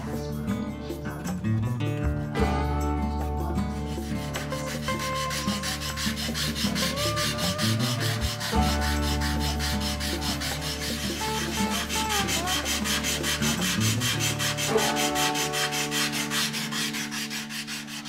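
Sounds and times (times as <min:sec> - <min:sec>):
sanding block rubbing wood: 0:03.4 - 0:18.0.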